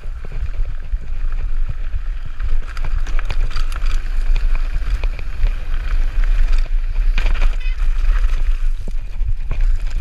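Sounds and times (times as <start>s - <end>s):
bike clicks and rattles: 0.0s - 10.0s
tyres on dirt: 0.0s - 10.0s
wind rumble on microphone: 0.0s - 10.0s.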